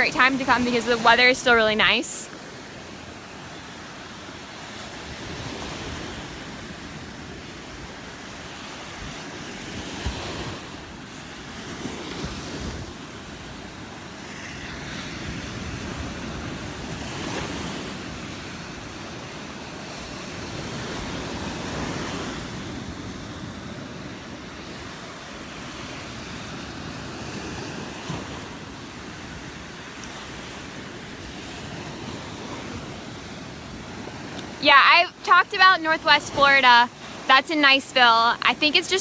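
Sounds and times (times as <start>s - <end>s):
surf breaking on beach: 0.0s - 39.0s.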